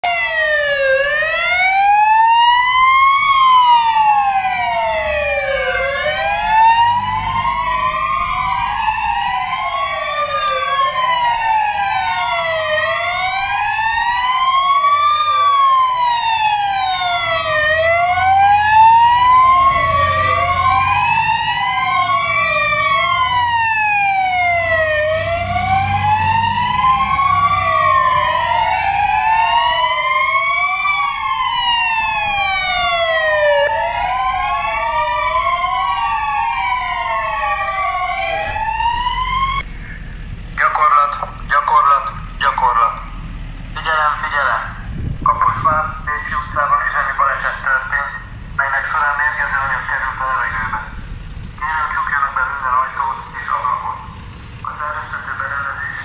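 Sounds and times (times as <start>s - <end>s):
fire engine sirens wailing: 0.0s - 56.0s
heavy truck engines rumbling: 0.0s - 56.0s.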